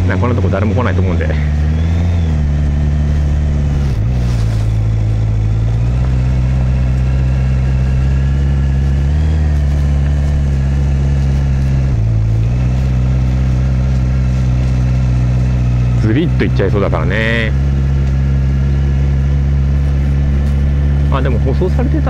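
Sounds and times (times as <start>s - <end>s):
motorcycle engine at low speed: 0.0s - 22.0s.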